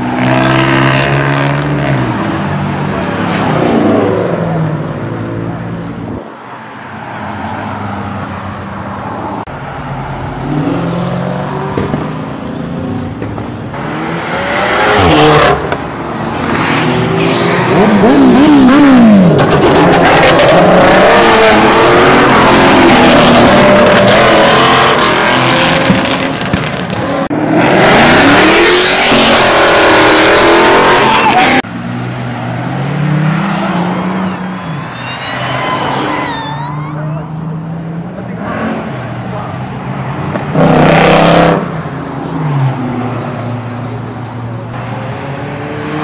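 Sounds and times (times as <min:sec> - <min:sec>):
car engines revving and accelerating: 0:00.0 - 0:46.0.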